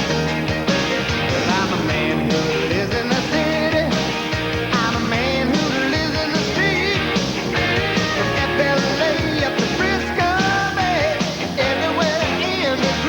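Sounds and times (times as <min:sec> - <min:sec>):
rock music with vocals: 0:00.0 - 0:13.0.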